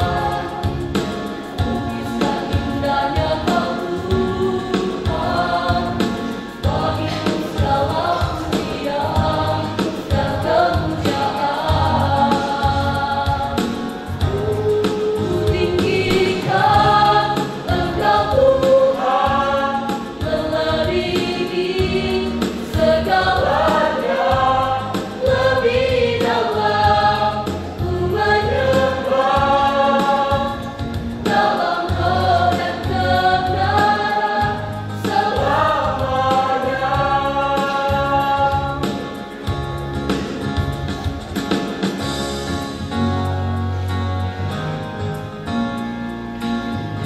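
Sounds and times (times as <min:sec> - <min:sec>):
choir singing a gospel song: 0:00.0 - 0:44.8.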